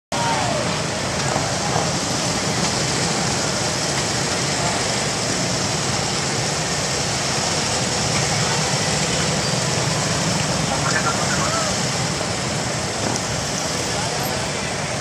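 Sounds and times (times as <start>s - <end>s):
motorcycle engines running: 0.2s - 15.0s.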